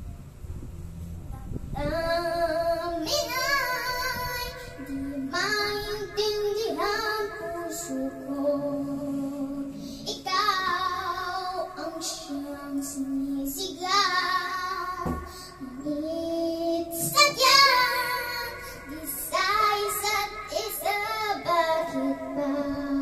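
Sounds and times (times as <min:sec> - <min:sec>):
girl singing a ballad: 0:01.4 - 0:23.0.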